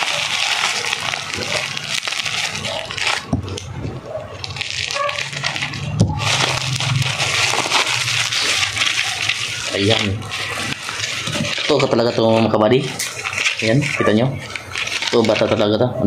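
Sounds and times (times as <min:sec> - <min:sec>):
plastic packaging crackling: 0:00.0 - 0:16.0.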